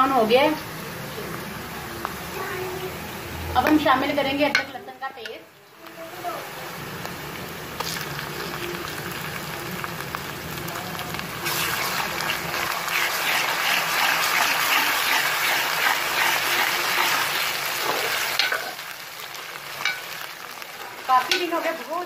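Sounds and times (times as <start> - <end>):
onions sizzling in hot fat: 0.0 - 22.0.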